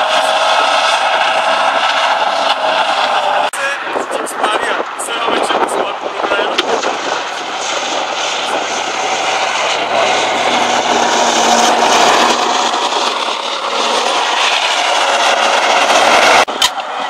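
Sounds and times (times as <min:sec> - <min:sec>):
tank diesel engine driving by: 0:00.0 - 0:05.5, 0:06.2 - 0:17.0.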